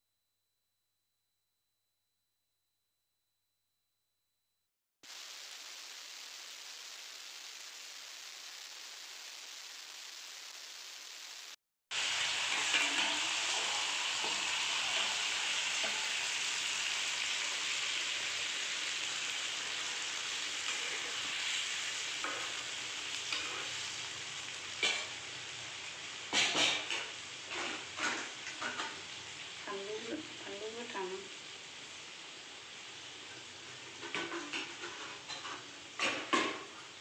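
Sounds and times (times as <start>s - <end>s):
fish sizzling in hot oil: 5.0s - 37.0s.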